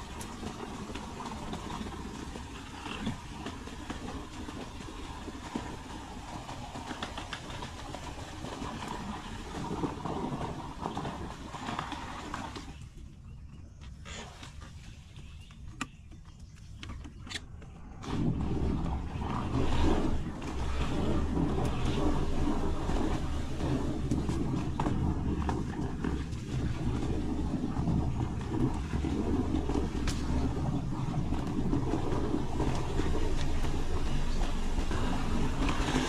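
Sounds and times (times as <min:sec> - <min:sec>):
boat motor droning: 0:00.0 - 0:36.0.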